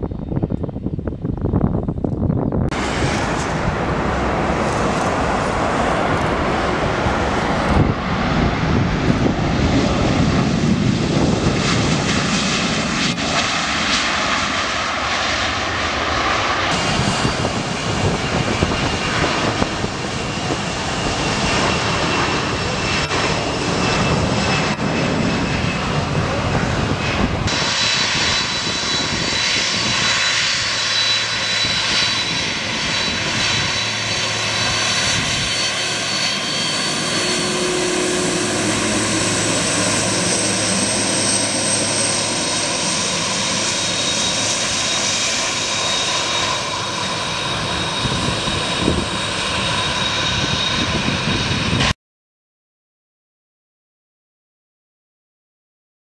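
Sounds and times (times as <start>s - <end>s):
jet engines rumbling: 0.0s - 52.0s.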